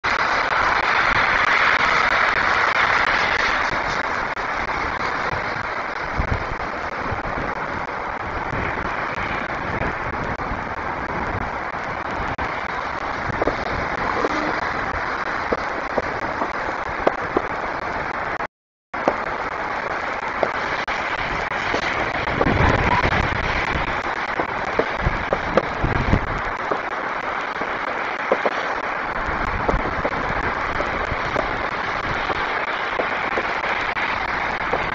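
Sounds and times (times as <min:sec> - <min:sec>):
distant fireworks popping: 0:00.0 - 0:34.9
steady hiss: 0:00.0 - 0:34.9.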